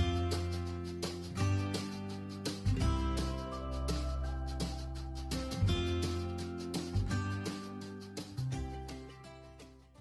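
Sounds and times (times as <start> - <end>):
steady bass line: 0.0 - 9.7
strummed guitar: 0.0 - 10.0.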